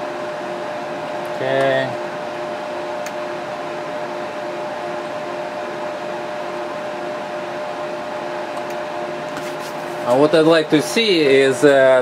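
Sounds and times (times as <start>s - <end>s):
computer fans rushing air: 0.0s - 12.0s
faint steady fan tones: 0.0s - 12.0s.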